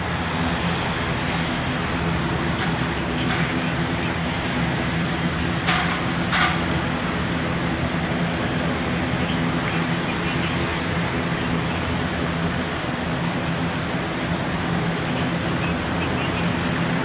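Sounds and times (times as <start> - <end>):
jet engines rumbling: 0.0 - 17.0
road traffic noise: 0.0 - 17.0.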